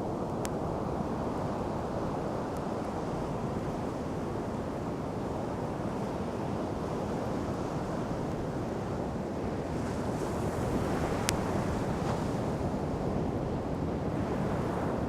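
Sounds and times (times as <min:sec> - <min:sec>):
wind on microphone: 0:00.0 - 0:15.0
ocean surf: 0:00.2 - 0:15.0.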